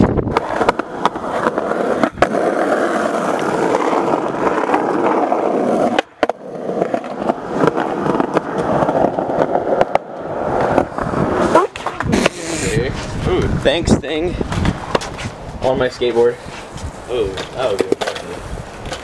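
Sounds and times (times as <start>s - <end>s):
skateboard wheels rolling on pavement: 0.0s - 19.0s.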